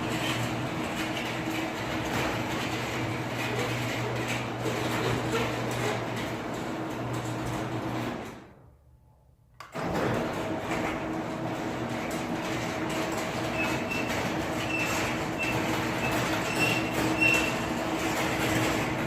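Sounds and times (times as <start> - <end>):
garage door opener rumbling: 0.0 - 8.7, 9.6 - 19.0.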